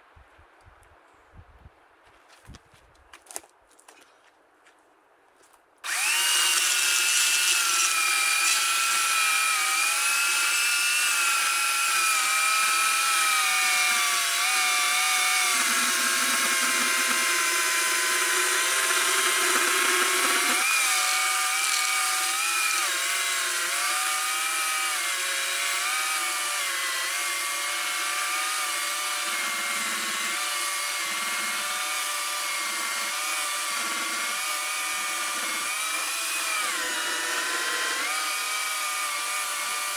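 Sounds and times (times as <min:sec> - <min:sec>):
electric chainsaw cutting log: 0:05.8 - 0:39.9.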